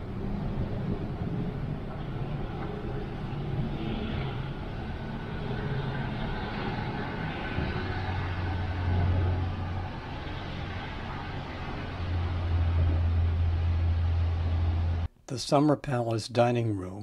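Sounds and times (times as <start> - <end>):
low mechanical rumble: 0.0 - 15.1
faint high whine: 0.0 - 16.9.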